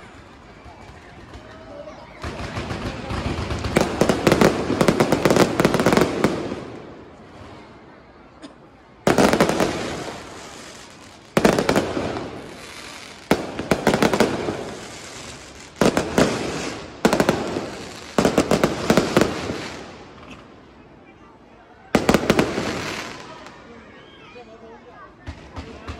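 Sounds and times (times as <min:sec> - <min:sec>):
fireworks bursting with bangs: 0:00.0 - 0:07.7, 0:09.0 - 0:20.7, 0:21.9 - 0:23.7
fireworks crackle: 0:00.0 - 0:07.7, 0:09.0 - 0:20.7, 0:21.9 - 0:23.7.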